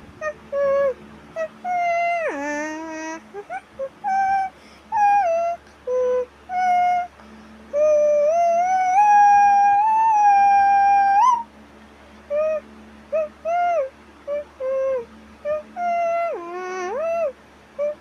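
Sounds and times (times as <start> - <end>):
animal whining calls: 0.0 - 7.1, 7.7 - 11.5, 12.3 - 18.0
animal howling: 0.2 - 7.1, 7.7 - 11.4, 12.3 - 18.0.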